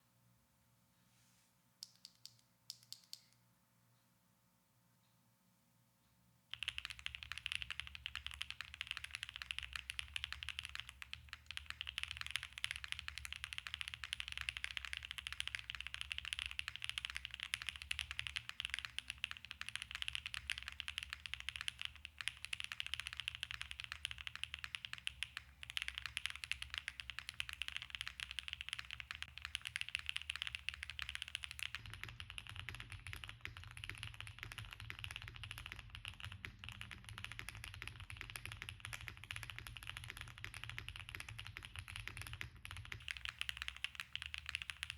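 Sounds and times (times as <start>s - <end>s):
typing on mechanical keyboard: 1.8s - 3.4s, 6.5s - 44.9s.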